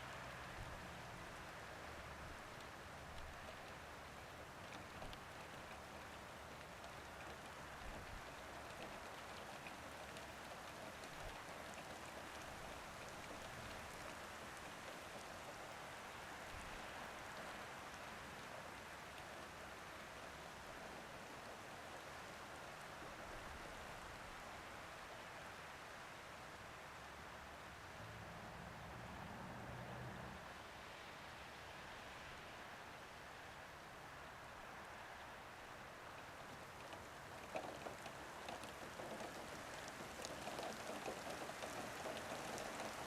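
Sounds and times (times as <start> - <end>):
rain falling on a roof: 0.0 - 43.0.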